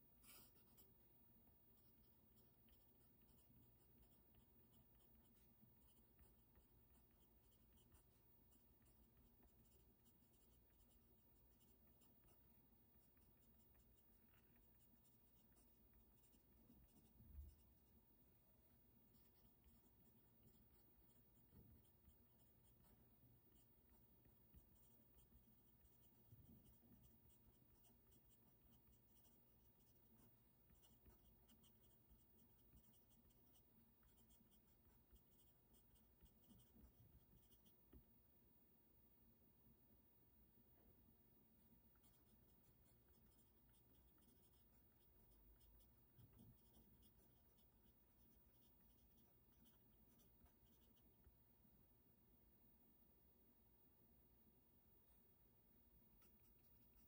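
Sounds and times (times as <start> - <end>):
pen scratching on paper: 0.0 - 38.2, 40.7 - 51.7, 56.0 - 57.0.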